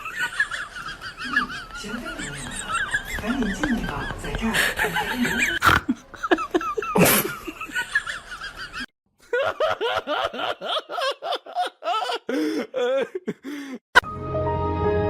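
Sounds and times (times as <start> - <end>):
person laughing: 0.0 - 13.8.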